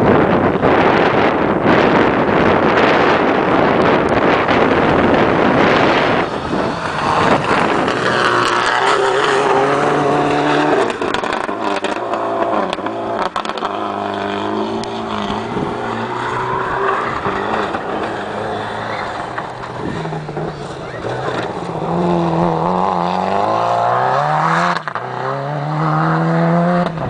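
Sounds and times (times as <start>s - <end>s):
loud rushing noise: 0.0s - 23.6s
rally car engine at full throttle: 0.0s - 27.0s.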